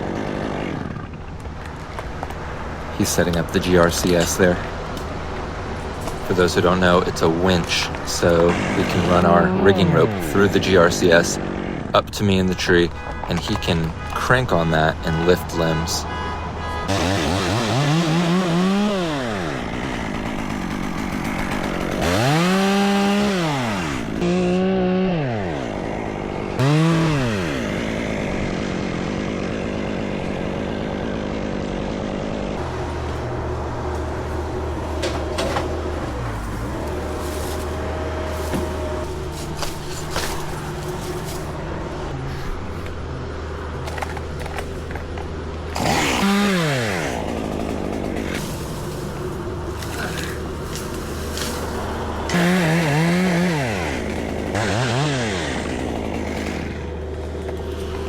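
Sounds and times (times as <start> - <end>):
chainsaw revving: 0.0 - 16.0, 16.7 - 58.0.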